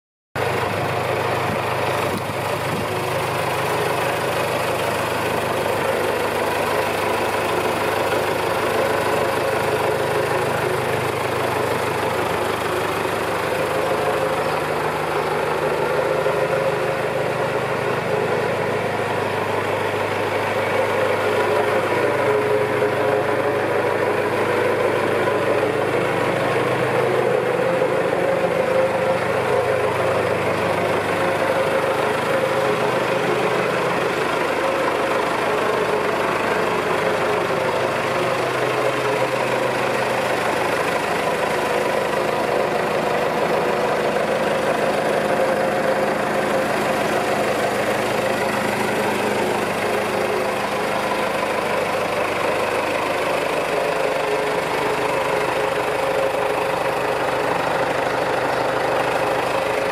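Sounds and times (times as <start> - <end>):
diesel tractor engine idling: 0.4 - 59.9.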